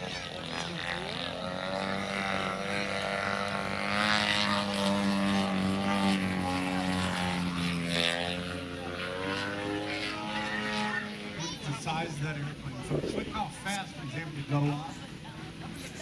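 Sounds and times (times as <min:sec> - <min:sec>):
model airplane engine drone: 0:00.0 - 0:16.0.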